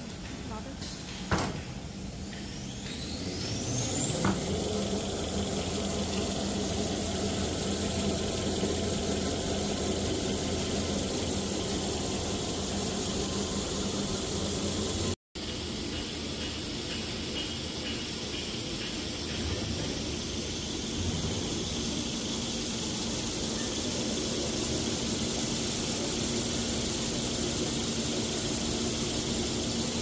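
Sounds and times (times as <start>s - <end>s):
low mechanical hum: 0.0s - 30.0s
machine high whine: 2.0s - 30.0s.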